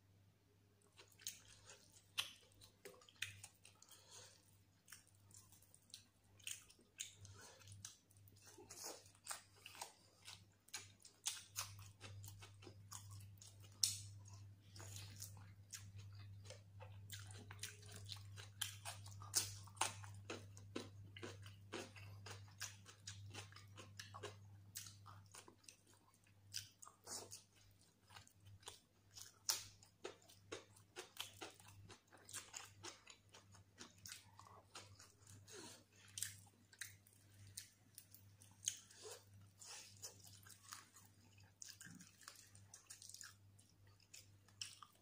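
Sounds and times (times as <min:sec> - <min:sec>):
chewing fried fish: 0:00.8 - 0:45.0.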